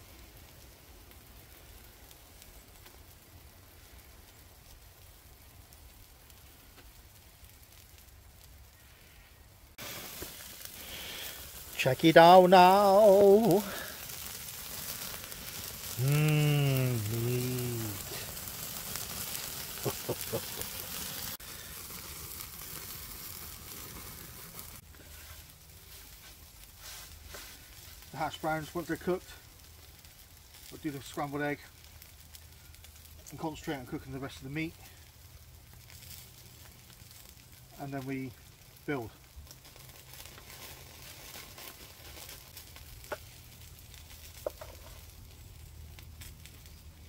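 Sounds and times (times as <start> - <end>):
food sizzling in a frying pan: 0.0 - 8.9, 9.7 - 47.0
faint fire crackle: 0.0 - 47.0.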